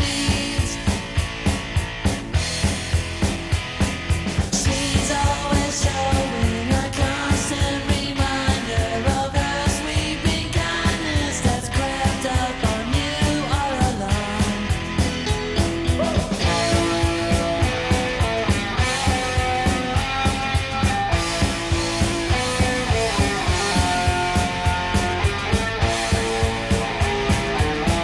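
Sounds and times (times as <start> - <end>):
drum kit steady beat: 0.0 - 28.0
electric guitars: 0.0 - 28.0.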